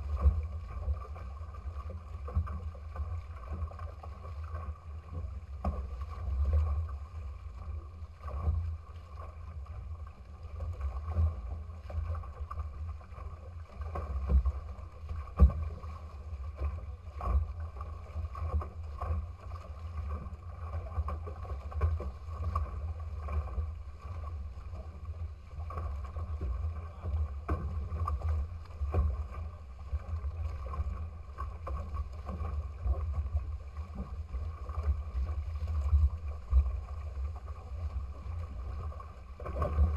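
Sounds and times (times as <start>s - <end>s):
water rushing and splashing: 0.0s - 39.9s
wind rumble on microphone: 0.0s - 39.9s.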